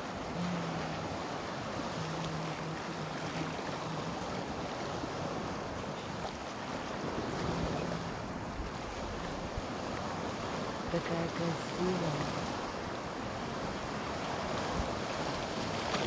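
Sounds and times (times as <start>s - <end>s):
sea waves washing against rocks: 0.0s - 16.0s.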